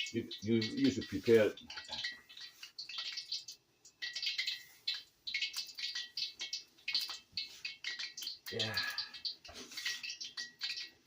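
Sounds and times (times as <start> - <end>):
hot oil crackling and hissing: 0.0 - 11.0.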